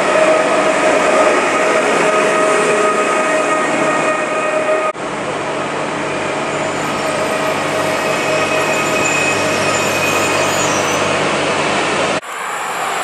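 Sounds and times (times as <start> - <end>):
electric train humming: 0.0 - 12.6.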